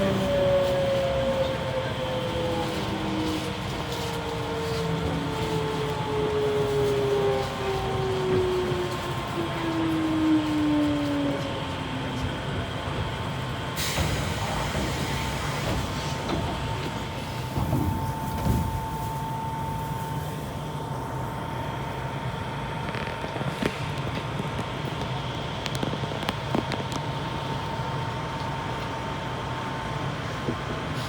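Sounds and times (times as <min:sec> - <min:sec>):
wheel and rail rumble: 0:00.0 - 0:31.0.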